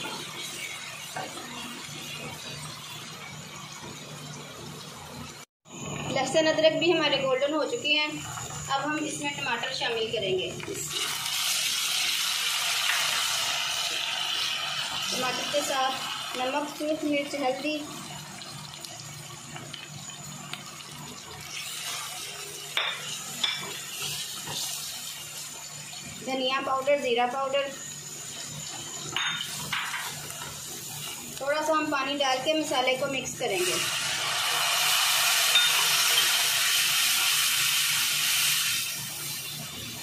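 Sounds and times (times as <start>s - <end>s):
oil sizzling in pot: 0.0s - 40.0s.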